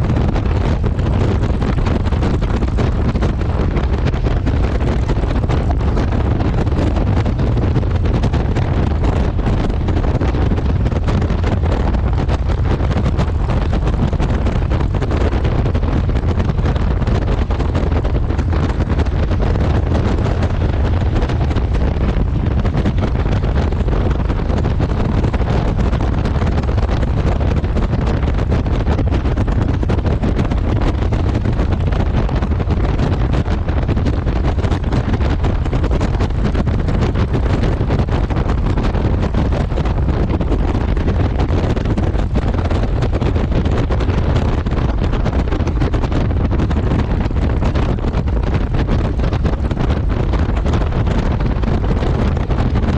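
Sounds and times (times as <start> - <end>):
road noise: 0.0 - 52.7
wind buffeting microphone: 0.0 - 52.9.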